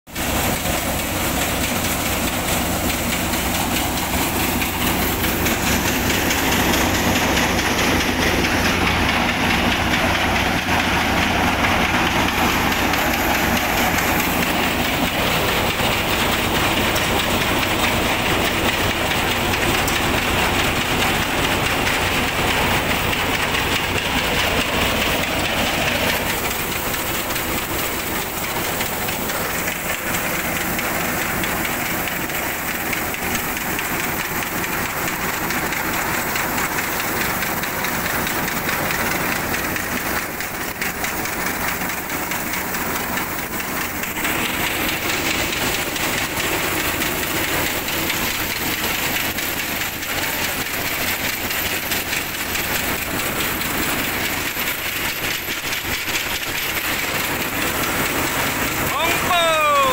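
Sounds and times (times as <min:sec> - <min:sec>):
thresher mechanical din: 0:00.1 - 0:59.9.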